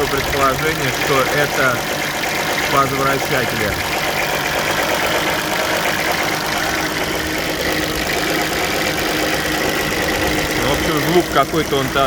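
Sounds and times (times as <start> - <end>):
car engine running: 0.0 - 12.0
engine knocking noise: 0.0 - 12.0.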